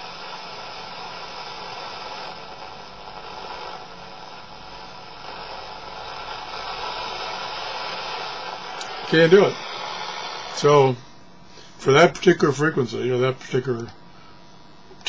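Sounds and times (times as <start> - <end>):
shortwave radio static and hiss: 0.0 - 15.0.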